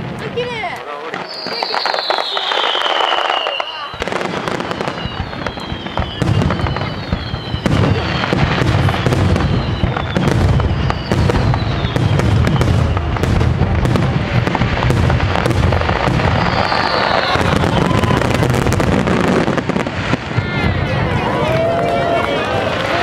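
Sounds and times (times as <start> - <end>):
firework bangs and crackles: 0.0 - 23.0
high falling firework whistles: 1.1 - 23.0.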